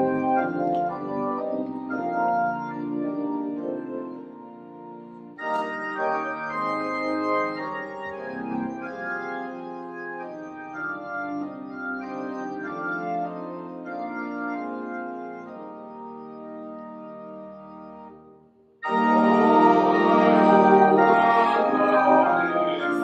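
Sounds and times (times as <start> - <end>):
church organ chords: 0.0 - 23.0.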